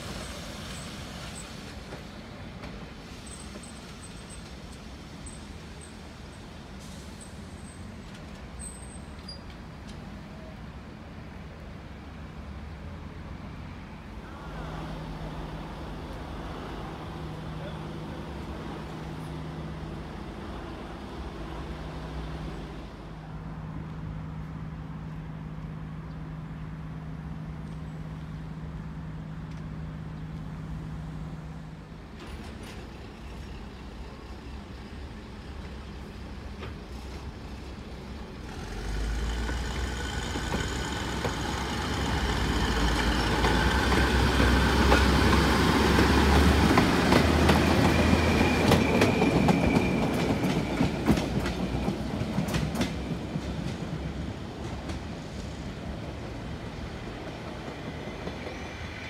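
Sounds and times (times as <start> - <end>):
diesel railbus engine accelerating: 0.0 - 59.0.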